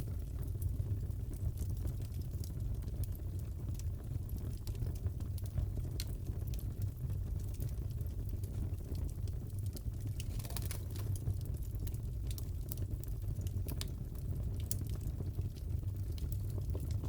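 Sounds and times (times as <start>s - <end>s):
fireplace crackling: 0.0s - 17.0s.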